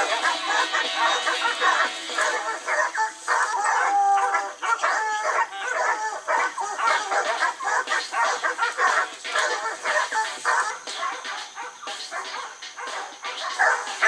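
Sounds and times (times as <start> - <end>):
hounds barking and baying: 0.0 - 14.0.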